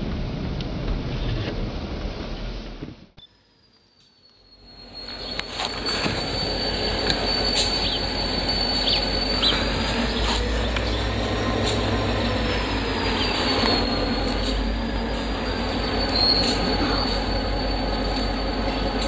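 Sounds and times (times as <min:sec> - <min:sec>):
low train rumble: 0:00.0 - 0:19.0
high train wheel squeal: 0:03.2 - 0:19.0.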